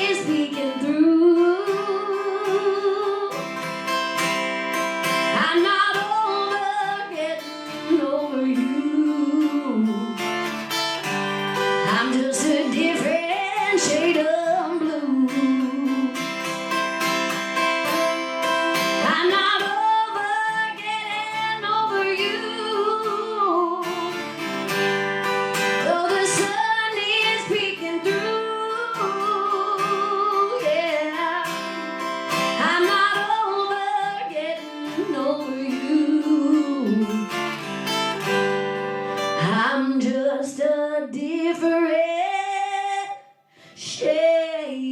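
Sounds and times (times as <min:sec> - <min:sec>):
woman singing: 0:00.0 - 0:03.8, 0:05.0 - 0:16.6, 0:17.8 - 0:24.7, 0:25.5 - 0:37.8, 0:39.2 - 0:44.9
acoustic guitar: 0:00.0 - 0:44.9.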